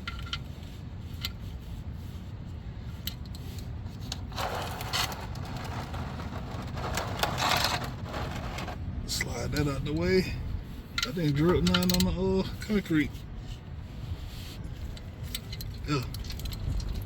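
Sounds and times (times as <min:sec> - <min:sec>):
scraping under car: 0:00.0 - 0:17.0
steady low rumble: 0:00.0 - 0:17.0.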